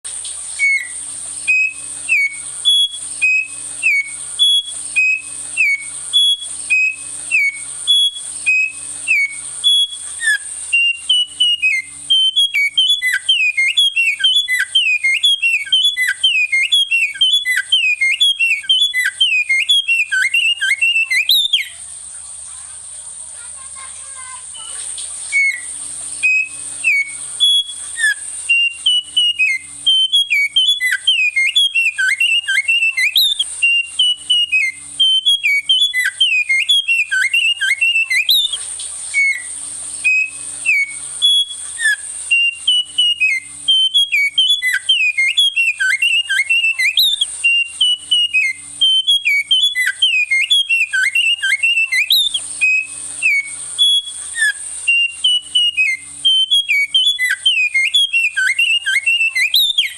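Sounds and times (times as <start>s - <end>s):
high-pitched hiss: 0.0s - 59.9s
songbird whistling runs: 0.3s - 22.4s, 23.8s - 59.9s.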